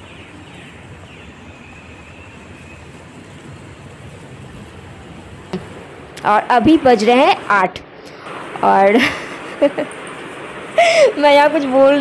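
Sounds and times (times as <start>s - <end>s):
city background noise: 0.0s - 12.0s.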